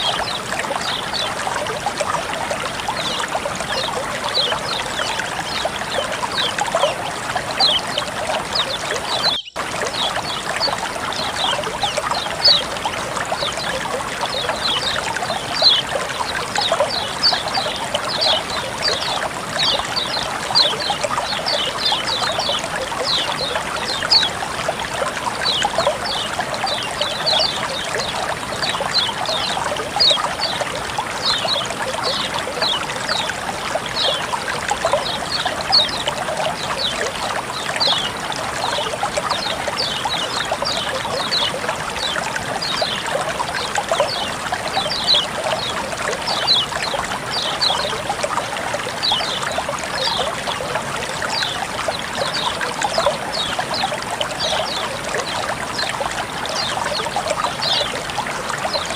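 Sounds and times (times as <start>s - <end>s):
water flowing and trickling: 0.0s - 58.9s.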